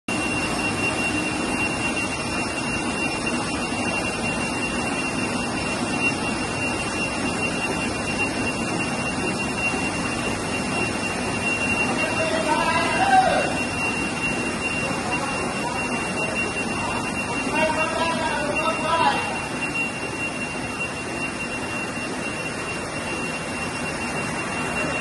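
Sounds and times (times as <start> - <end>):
high-pitched whine: 0.1 - 25.0
printing press machine drone: 0.1 - 25.0.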